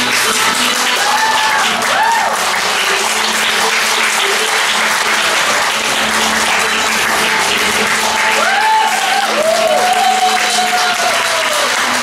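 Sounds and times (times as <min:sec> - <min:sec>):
audience clapping: 0:00.0 - 0:12.0
faint performance music: 0:00.0 - 0:12.0.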